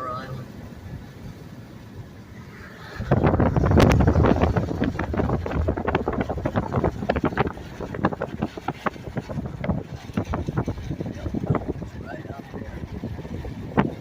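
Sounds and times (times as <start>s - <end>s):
wind buffeting microphone: 0.5s - 14.0s.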